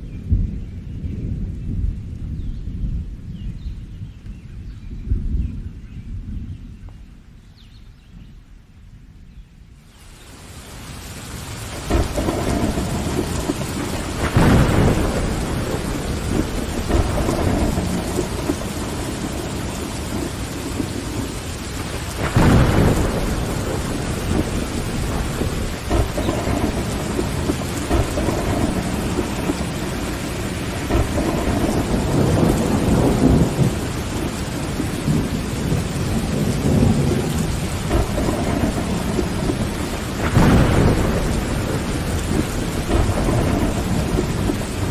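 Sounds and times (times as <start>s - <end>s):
rolling thunder: 0.0s - 7.3s, 11.6s - 44.9s
steady rain: 0.0s - 44.9s.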